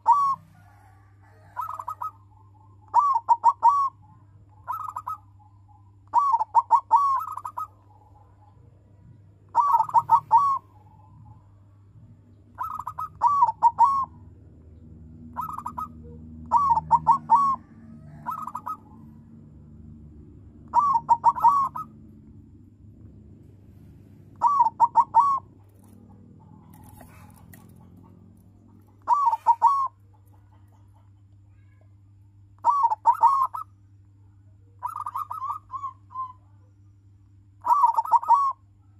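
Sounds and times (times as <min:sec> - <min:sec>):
dove cooing: 0:00.0 - 0:14.3, 0:15.0 - 0:31.7, 0:32.6 - 0:33.7, 0:34.8 - 0:36.6, 0:37.6 - 0:38.6.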